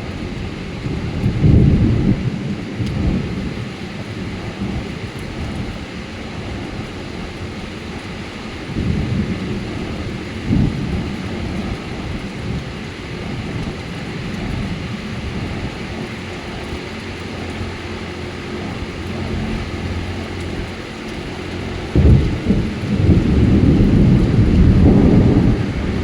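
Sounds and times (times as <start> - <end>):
rain hissing: 0.0 - 26.0
thunder rumbling: 0.0 - 26.0.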